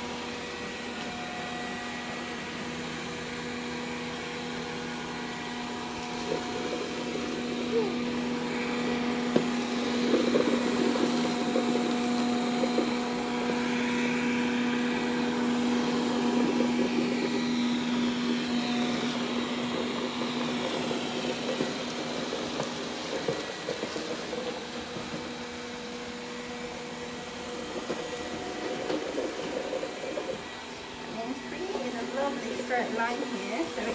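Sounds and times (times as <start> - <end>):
robot vacuum humming: 0.0 - 33.9.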